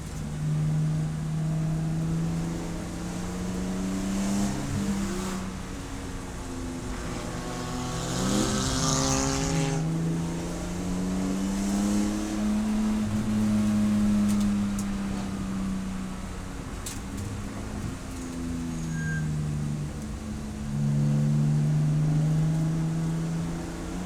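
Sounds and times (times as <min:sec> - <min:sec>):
race car engine running: 0:00.0 - 0:24.0.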